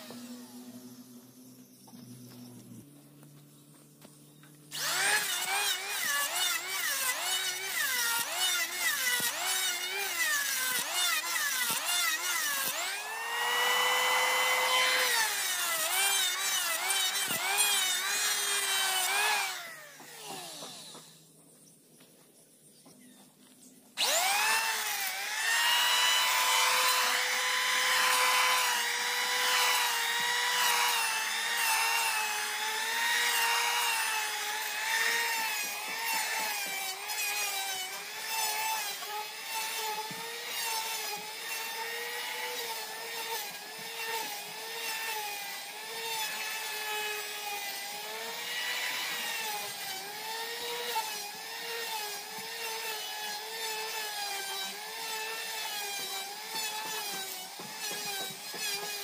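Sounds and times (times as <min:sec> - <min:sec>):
electric planer whining: 0:00.0 - 0:21.2, 0:24.0 - 0:59.0.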